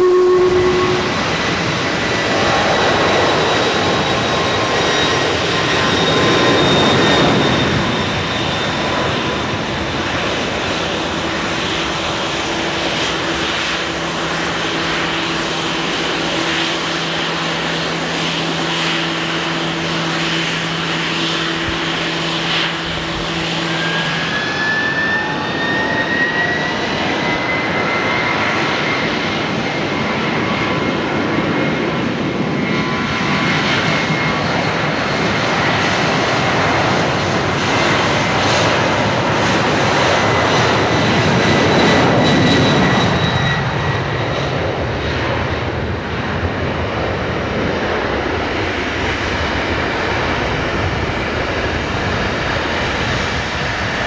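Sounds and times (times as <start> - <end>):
jet engine high whine: 0.0 - 54.0
jet engines at takeoff: 0.0 - 54.0.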